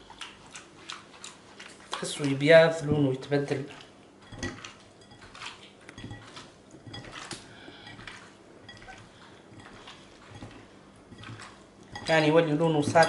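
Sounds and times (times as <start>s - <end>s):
wet food handling: 0.0s - 13.0s.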